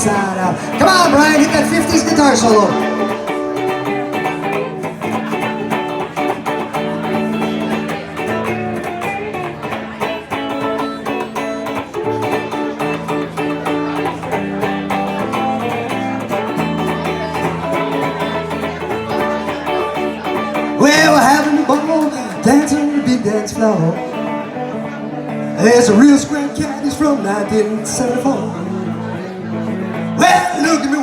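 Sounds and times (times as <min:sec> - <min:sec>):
rock band playing: 0:00.0 - 0:28.2
electric guitar solo: 0:00.0 - 0:31.0.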